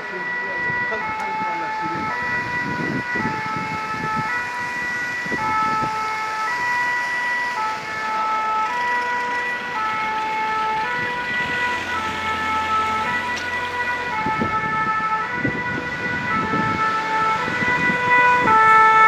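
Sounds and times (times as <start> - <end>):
fire engine two-tone siren: 0.0 - 19.0.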